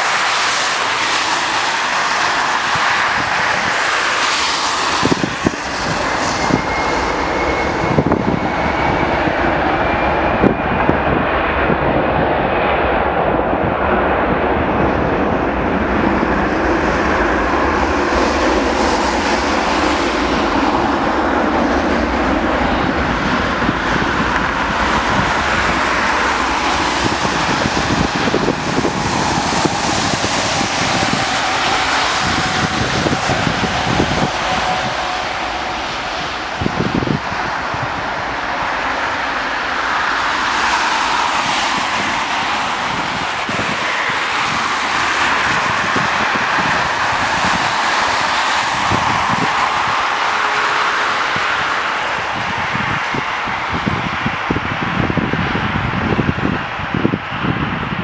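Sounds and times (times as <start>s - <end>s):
jet engine whine rising: 0.0s - 58.0s
jet engines roaring: 0.0s - 58.0s.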